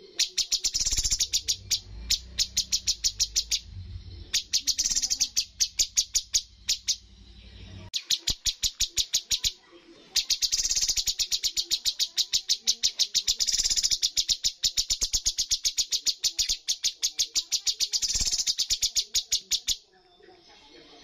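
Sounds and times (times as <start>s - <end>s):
bird singing rapid sharp notes: 0.0s - 19.9s.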